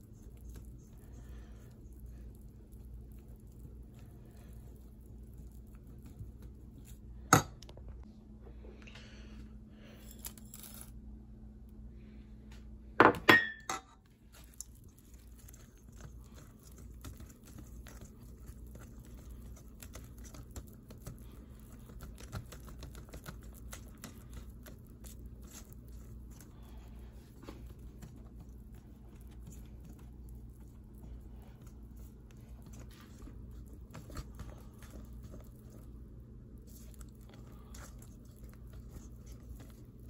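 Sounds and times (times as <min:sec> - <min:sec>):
whisk stirring batter in metal bowl: 0:00.0 - 0:07.0, 0:14.0 - 0:40.0.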